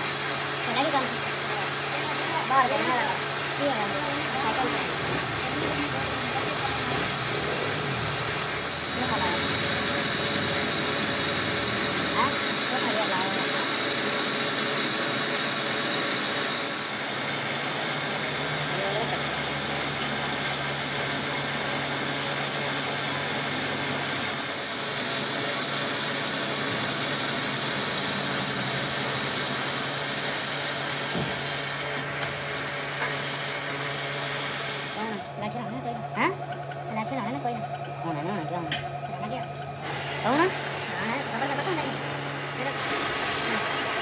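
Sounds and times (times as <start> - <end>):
high-pitched metal cutting whine: 0.0 - 44.0
lathe motor humming: 0.0 - 44.0.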